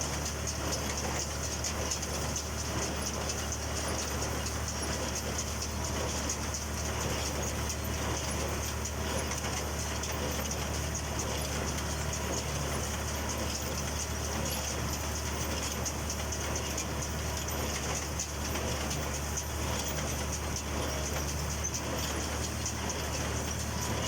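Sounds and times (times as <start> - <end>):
baler mechanical drone: 0.0 - 24.0.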